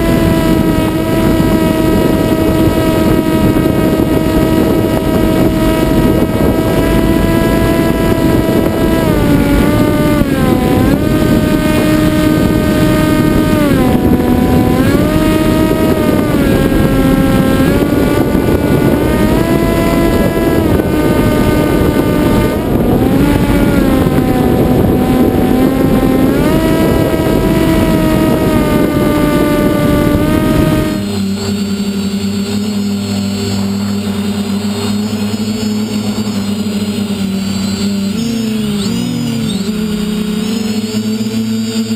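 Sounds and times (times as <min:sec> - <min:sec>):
airflow rushing: 0:00.0 - 0:41.0
electric motor and propeller whine: 0:00.0 - 0:41.9.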